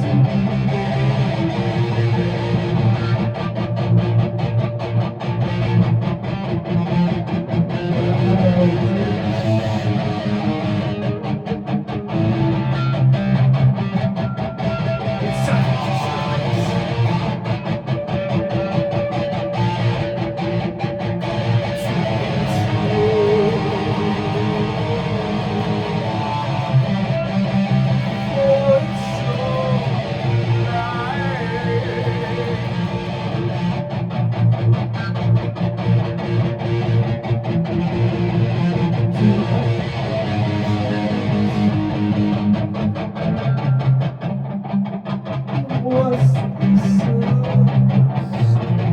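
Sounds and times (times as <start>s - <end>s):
guitar playing chords: 0.0s - 48.9s.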